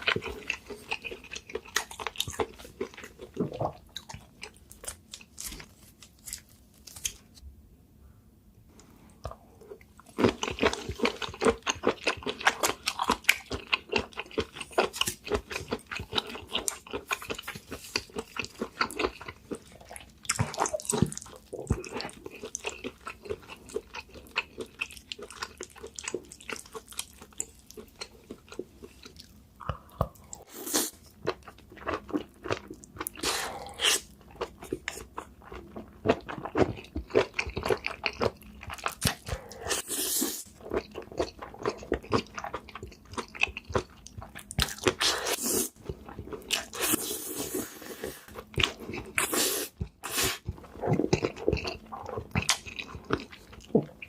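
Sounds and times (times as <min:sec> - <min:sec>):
person chewing crunchy food: 0:00.0 - 0:07.1, 0:09.1 - 0:54.0.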